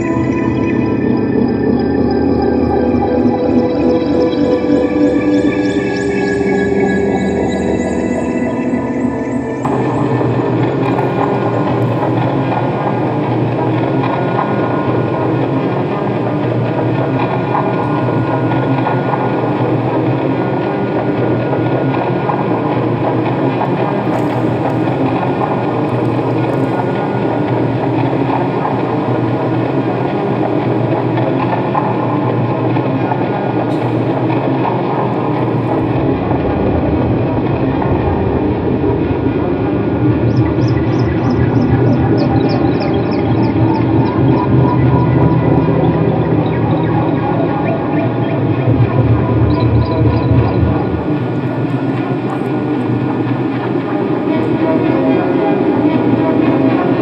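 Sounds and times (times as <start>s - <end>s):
electronic synthesizer drone: 0.0s - 57.0s.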